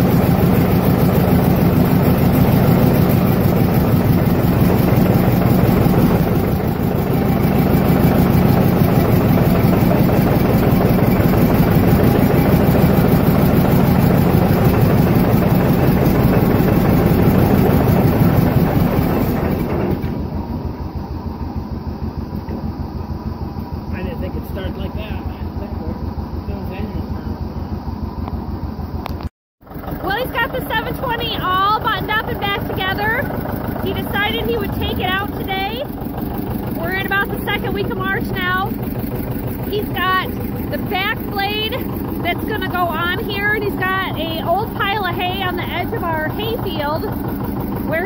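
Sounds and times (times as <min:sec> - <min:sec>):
diesel tractor engine running: 0:00.0 - 0:48.0.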